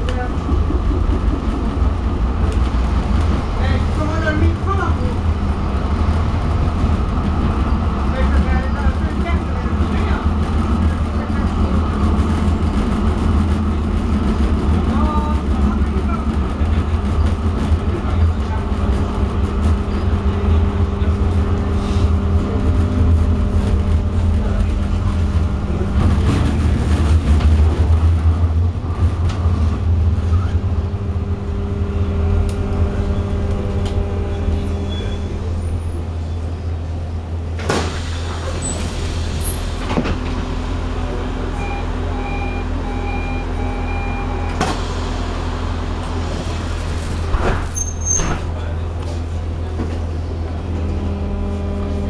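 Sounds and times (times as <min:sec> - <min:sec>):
tram rumble with motor whine: 0:00.0 - 0:52.0.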